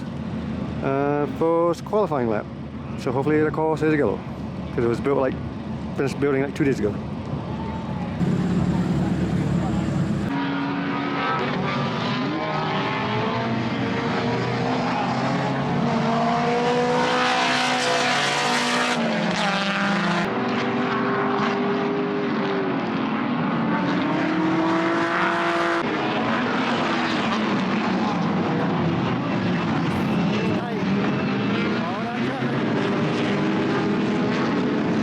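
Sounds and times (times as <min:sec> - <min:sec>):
race car engines: 0:00.0 - 0:35.0.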